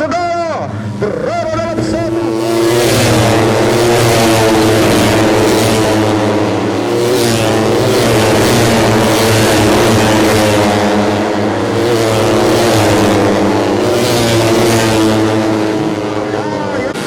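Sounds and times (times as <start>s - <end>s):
motorcycles racing at high revs: 0.0s - 17.0s.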